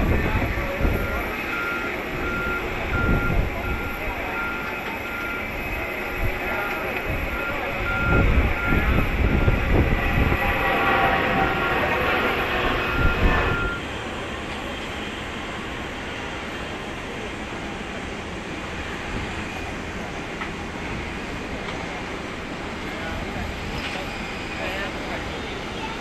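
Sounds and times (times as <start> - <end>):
jet engines whining and rumbling: 0.0 - 26.0.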